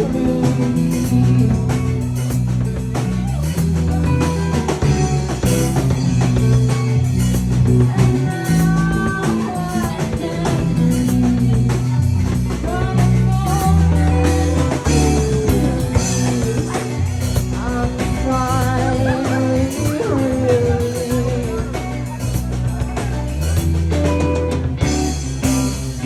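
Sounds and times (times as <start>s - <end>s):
bass guitar: 0.0s - 26.0s
drum kit beat: 0.0s - 26.0s
electric guitar: 0.0s - 26.0s.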